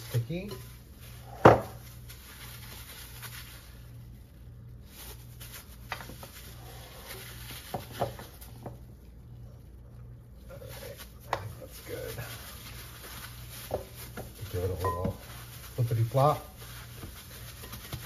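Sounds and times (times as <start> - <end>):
gloved hands kneading dough: 0.0 - 18.0
steady low hum: 0.0 - 18.0.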